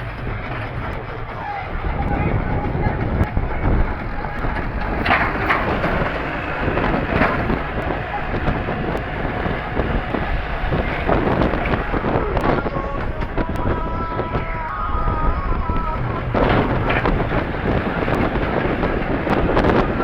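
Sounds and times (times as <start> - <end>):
tractor running under load: 0.0 - 20.0
wind buffeting microphone: 0.0 - 20.0.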